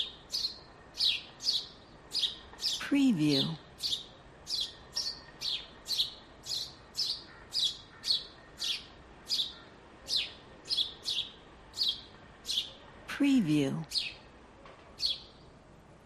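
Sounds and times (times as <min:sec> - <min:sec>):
bird chirping: 0:00.0 - 0:12.8, 0:13.9 - 0:14.2, 0:15.0 - 0:15.4.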